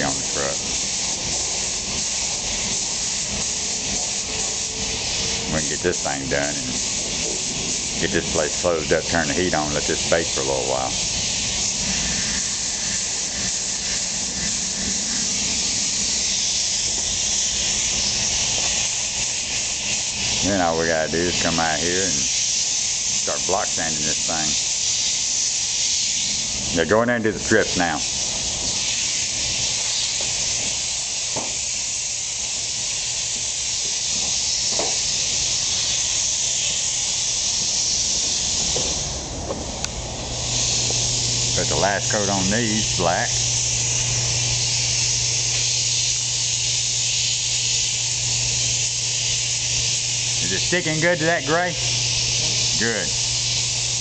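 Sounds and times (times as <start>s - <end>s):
paint spray gun hissing: 0.0s - 54.0s.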